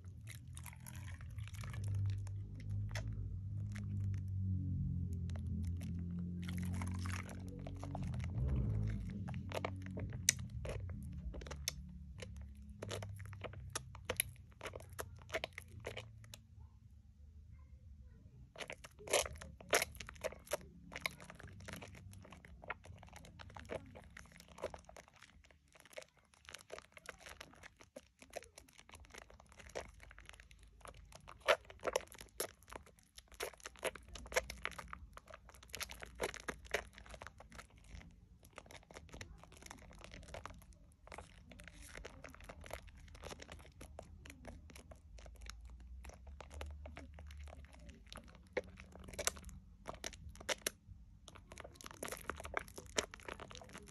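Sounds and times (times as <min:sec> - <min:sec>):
soap lather squelching: 0:00.0 - 0:16.4, 0:18.6 - 0:53.9.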